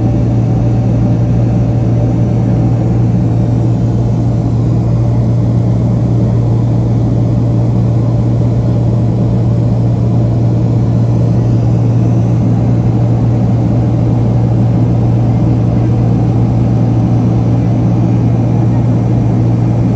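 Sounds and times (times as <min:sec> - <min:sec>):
jet engine drone: 0:00.0 - 0:19.9.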